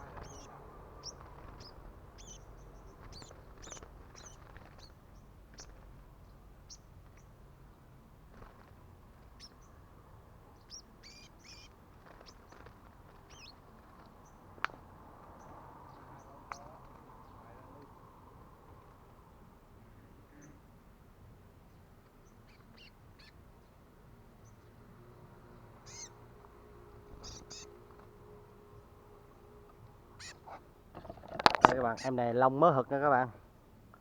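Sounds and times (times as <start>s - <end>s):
birds chirping high: 0.0s - 20.8s, 21.5s - 33.8s.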